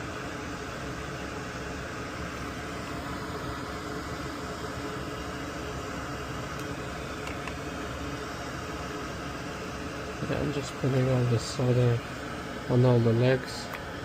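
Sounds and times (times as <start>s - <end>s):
electric fan whirring: 0.0s - 14.0s
faint hum: 0.0s - 14.0s.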